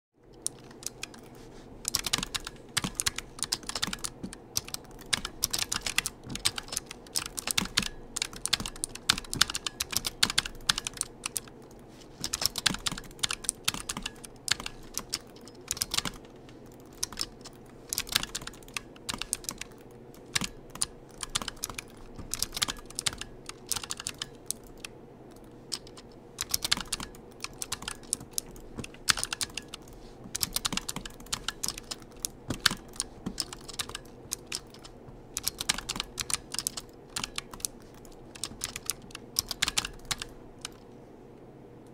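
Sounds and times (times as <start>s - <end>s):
computer keyboard typing: 0.2s - 40.9s.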